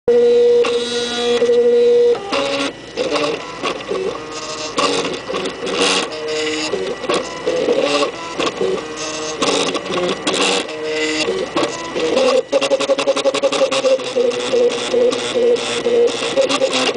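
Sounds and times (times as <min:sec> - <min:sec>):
harsh bursts of printer noise: 0:00.1 - 0:16.9
stepper motors whining: 0:00.1 - 0:16.9.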